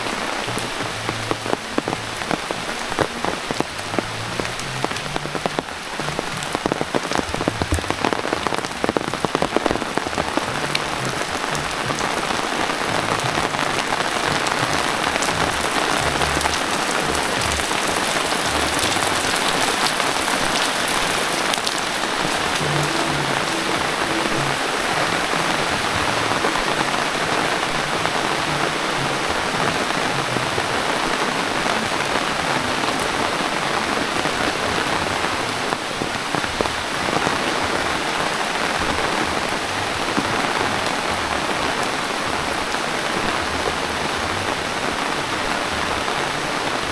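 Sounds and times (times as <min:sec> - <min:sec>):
close raindrops ticking: 0:00.0 - 0:46.9
heavy rain hissing: 0:00.0 - 0:46.9.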